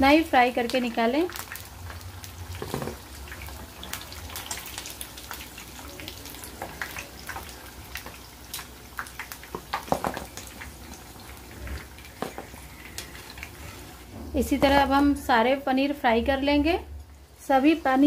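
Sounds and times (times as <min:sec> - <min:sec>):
food frying in oil: 0:00.0 - 0:18.0.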